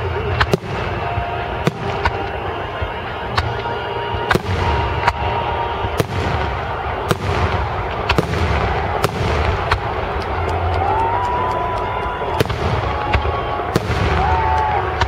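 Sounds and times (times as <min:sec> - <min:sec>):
fireworks bangs: 0:00.0 - 0:15.0
steady background noise: 0:00.0 - 0:15.0.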